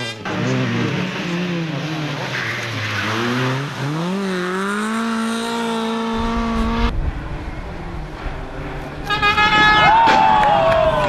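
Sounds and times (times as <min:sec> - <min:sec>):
rally car engine revving: 0:00.0 - 0:09.6.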